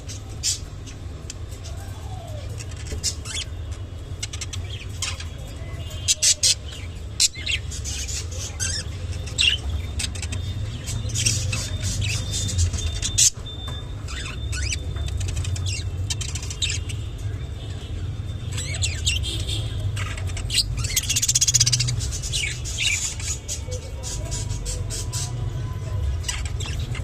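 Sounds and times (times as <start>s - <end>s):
budgerigars chirping: 0.0s - 1.8s, 2.6s - 25.4s, 26.2s - 27.0s.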